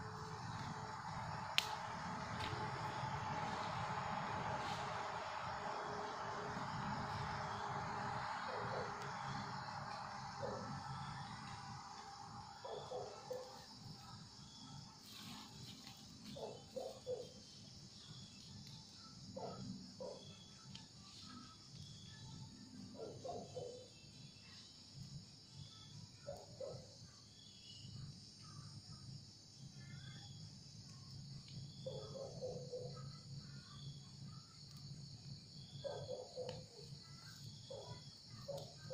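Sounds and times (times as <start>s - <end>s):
crickets chirping: 0.0s - 38.9s
insect hum: 0.0s - 38.9s.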